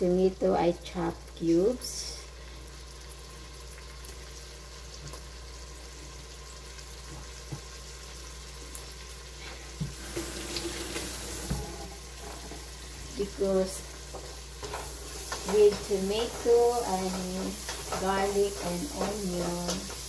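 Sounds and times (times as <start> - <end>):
tomato sizzling in a pot: 0.0 - 20.0.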